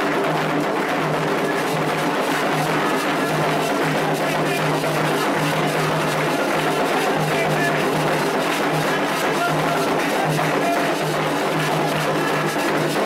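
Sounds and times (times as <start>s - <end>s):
drums playing driving rhythm: 0.0s - 13.0s.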